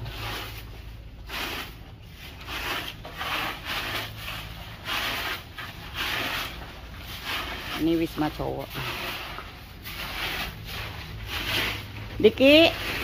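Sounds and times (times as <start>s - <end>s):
stick broom sweeping ground: 0.0s - 13.0s.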